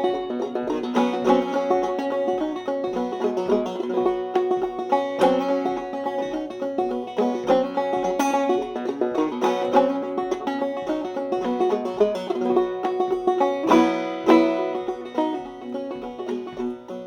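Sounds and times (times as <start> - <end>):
solo banjo fiddle tune: 0.0 - 17.0.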